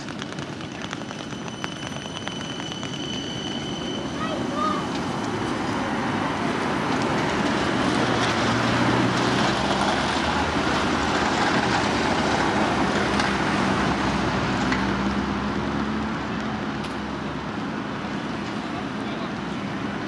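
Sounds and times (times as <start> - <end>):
cars passing close by: 3.1 - 20.0.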